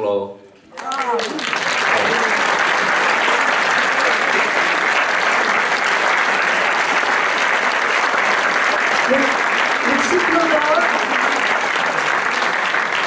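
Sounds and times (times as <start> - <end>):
crowd applauding: 0.7 - 13.0.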